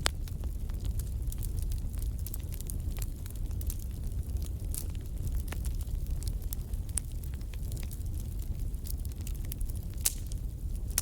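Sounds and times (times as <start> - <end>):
fireplace fire crackling: 0.0 - 11.0.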